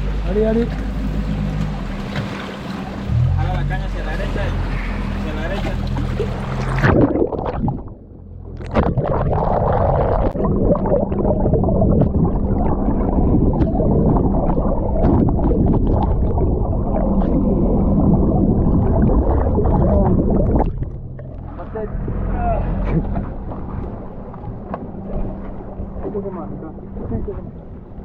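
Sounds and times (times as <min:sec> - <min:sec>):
muffled rushing gurgling water: 0:00.0 - 0:28.0.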